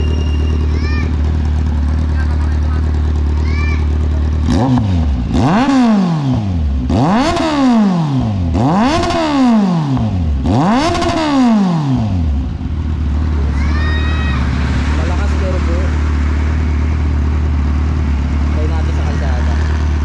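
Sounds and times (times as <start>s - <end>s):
motorcycle engine idling: 0.0s - 20.0s
motorcycle engine revving: 0.0s - 20.0s.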